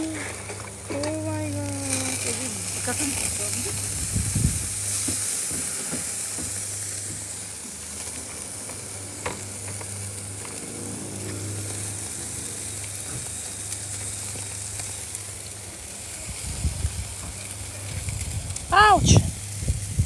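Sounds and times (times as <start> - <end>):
food sizzling in hot oil: 0.0 - 20.0
oil crackles and pops: 0.0 - 20.0
steady low hum: 0.0 - 20.0.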